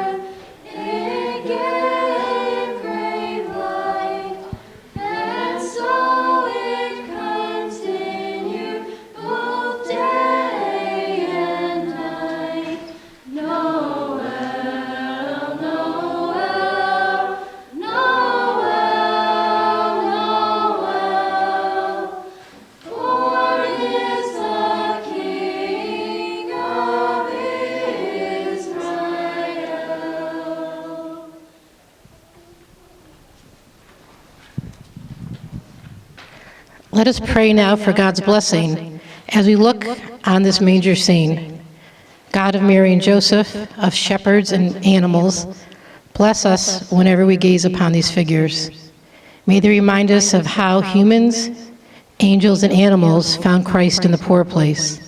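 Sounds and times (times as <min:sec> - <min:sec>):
a cappella group singing a carol: 0:00.0 - 0:32.0, 0:36.9 - 0:55.0.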